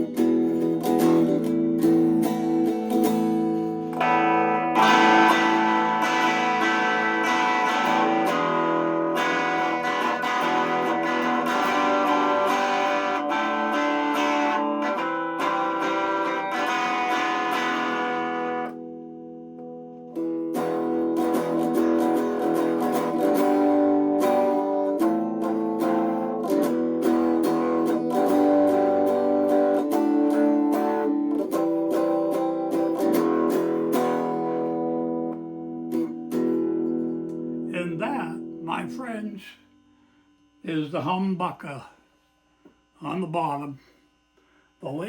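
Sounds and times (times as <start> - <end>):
electric guitar strumming chords: 0.0 - 41.8.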